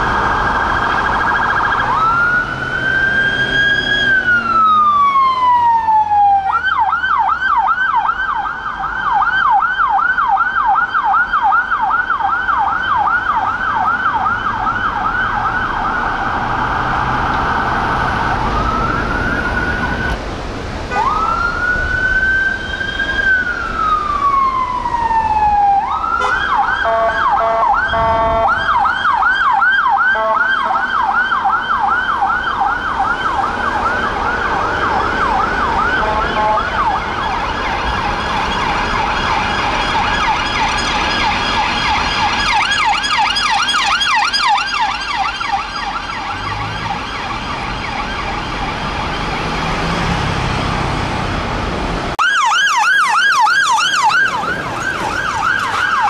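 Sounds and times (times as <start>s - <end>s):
police siren wailing: 0.0s - 20.2s, 20.9s - 51.4s, 52.0s - 56.0s
police siren yelping: 0.0s - 20.2s, 20.9s - 50.4s, 52.1s - 56.0s
second siren: 0.0s - 20.2s, 20.9s - 50.3s, 52.2s - 56.0s.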